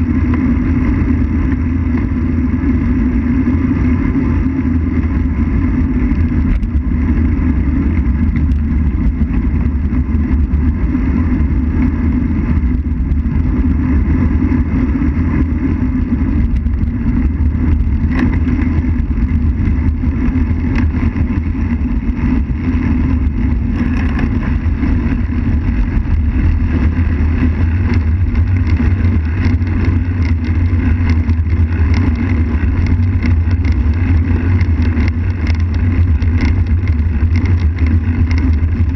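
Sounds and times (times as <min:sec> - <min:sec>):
tyre rumble on asphalt: 0:00.0 - 0:38.9
wind rush over microphone: 0:00.0 - 0:38.9.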